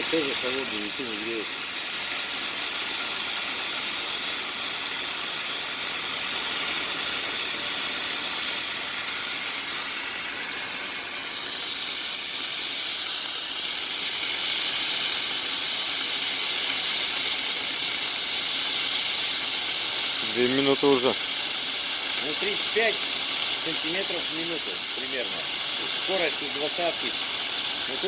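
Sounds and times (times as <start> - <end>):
gas cutting torch hissing: 0.0 - 28.0.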